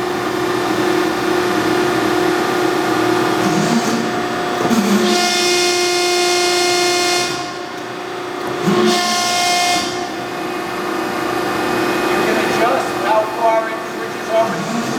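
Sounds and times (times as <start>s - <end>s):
hydraulic pump whining: 0.0s - 14.9s.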